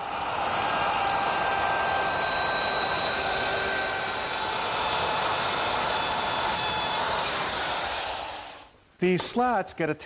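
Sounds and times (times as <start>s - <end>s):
router cutting wood: 0.0s - 8.7s
router high-pitched whine: 0.0s - 8.7s.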